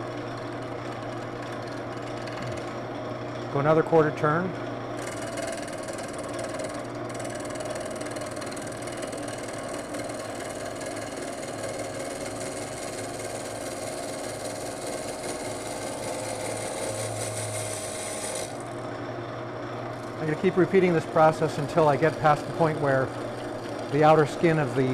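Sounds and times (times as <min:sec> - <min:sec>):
lathe motor hum: 0:00.0 - 0:24.9
lathe bit cutting wood: 0:04.9 - 0:24.9.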